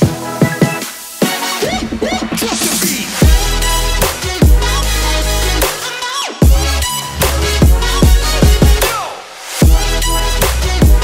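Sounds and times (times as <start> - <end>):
electronic music with sliding bass: 0.0 - 11.0.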